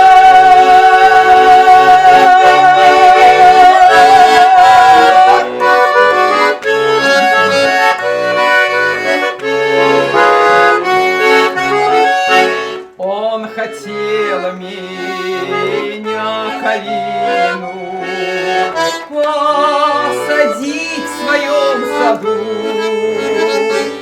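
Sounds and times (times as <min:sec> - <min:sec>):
button accordion playing folk music: 0:00.0 - 0:24.0.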